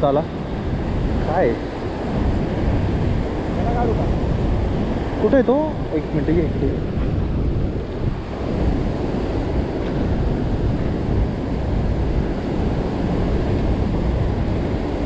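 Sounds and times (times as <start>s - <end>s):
white water rushing: 0.0s - 15.0s
wind buffeting microphone: 0.0s - 15.0s.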